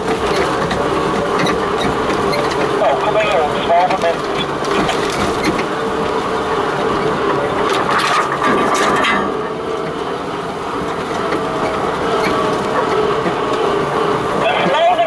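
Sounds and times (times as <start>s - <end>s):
grass brushing along vehicle: 0.0s - 15.0s
vehicle body rattles: 0.0s - 15.0s
vehicle engine droning: 0.0s - 15.0s.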